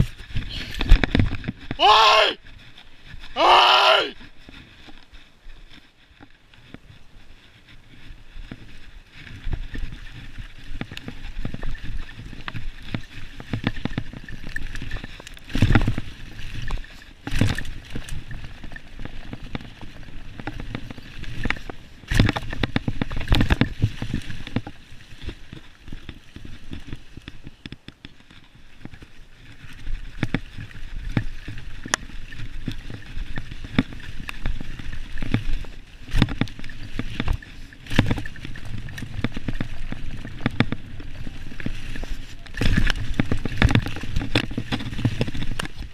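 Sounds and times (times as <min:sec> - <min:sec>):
bike rattling over bumps: 0:00.0 - 0:03.4, 0:04.3 - 0:45.9
tyres on dirt and dry leaves: 0:00.0 - 0:45.9.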